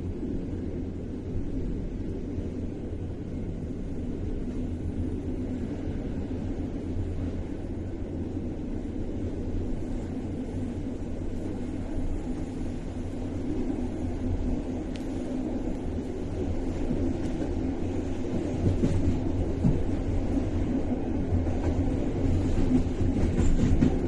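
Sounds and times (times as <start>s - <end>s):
train coach rumbling on track: 0.0s - 24.0s.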